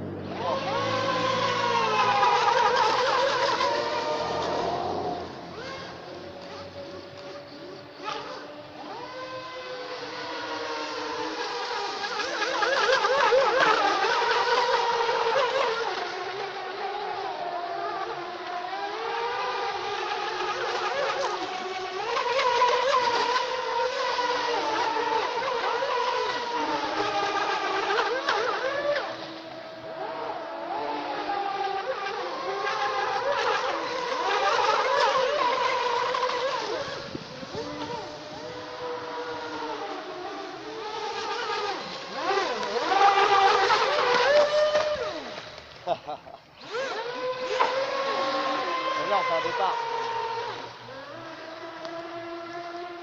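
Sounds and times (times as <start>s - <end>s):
rc speedboat motor whining: 0.0s - 53.0s.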